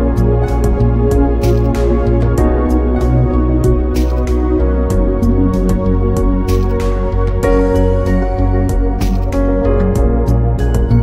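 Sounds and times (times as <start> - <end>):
sustained tones over low bass: 0.0 - 11.0.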